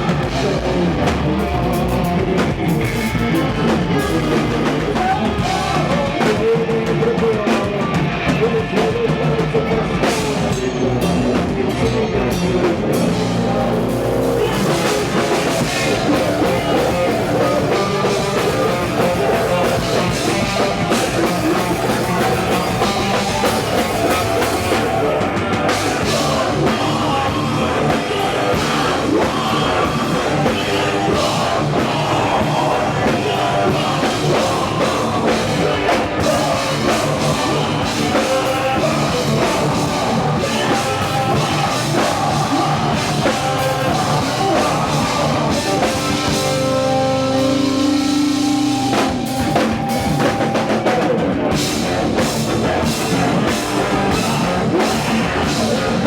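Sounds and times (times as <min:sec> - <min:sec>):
drum kit: 0:00.0 - 0:56.0
rock band playing live: 0:00.0 - 0:56.0.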